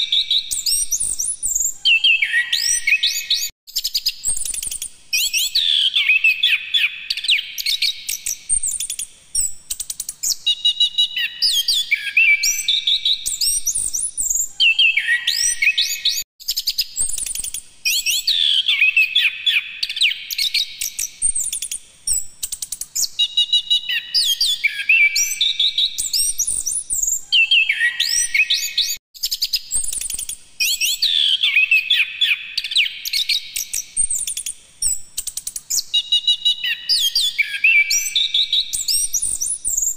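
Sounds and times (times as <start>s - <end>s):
thrush singing whistled notes: 0.0s - 9.6s, 10.2s - 22.4s, 23.0s - 35.1s, 35.7s - 39.9s.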